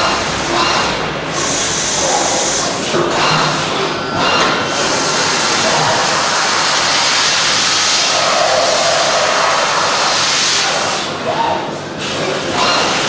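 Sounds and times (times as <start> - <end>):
machine tool cutting metal: 0.0 - 11.0.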